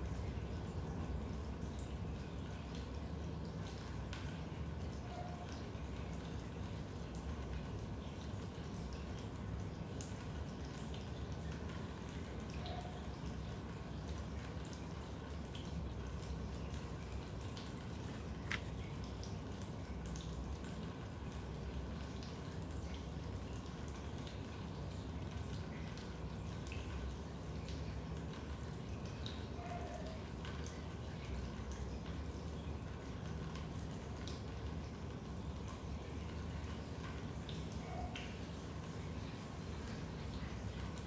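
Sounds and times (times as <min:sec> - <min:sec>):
steady low background noise: 0:00.0 - 0:41.0
water drips: 0:00.0 - 0:41.0.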